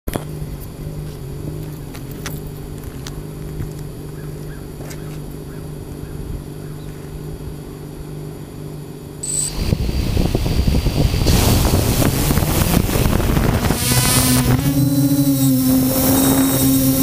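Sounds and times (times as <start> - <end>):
drone motors humming: 0.1 - 17.0.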